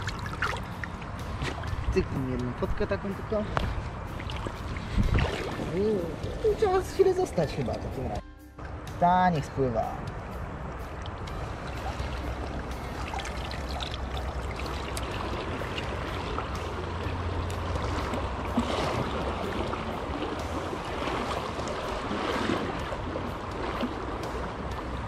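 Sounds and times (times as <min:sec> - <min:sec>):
river water rushing: 0:00.0 - 0:02.1, 0:03.2 - 0:08.9, 0:10.1 - 0:25.0.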